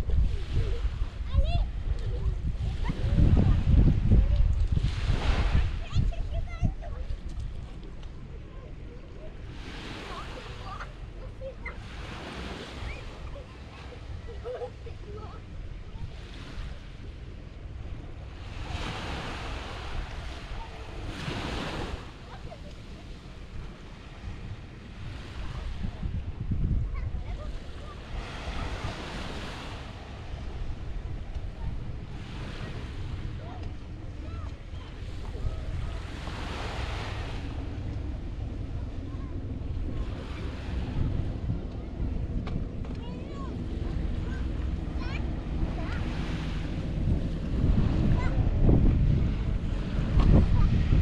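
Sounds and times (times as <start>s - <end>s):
wind noise on microphone: 0.0s - 14.3s, 15.1s - 51.0s
waves breaking on a beach: 0.0s - 51.0s.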